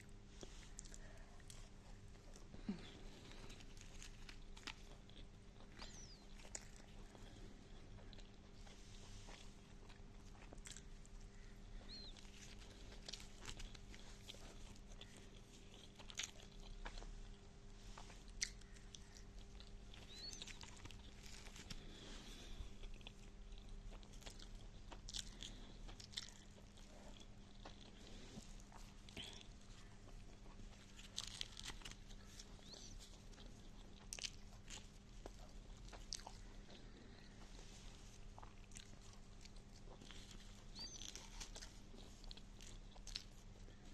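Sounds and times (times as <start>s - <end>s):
person chewing food: 0.0s - 43.9s
steady low hum: 0.0s - 43.9s.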